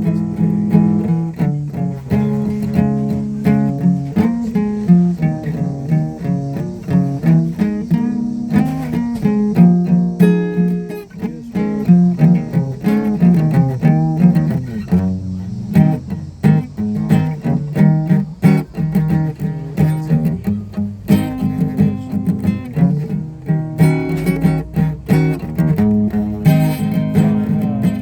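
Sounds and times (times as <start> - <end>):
guitar plucking and strumming: 0.0 - 28.0.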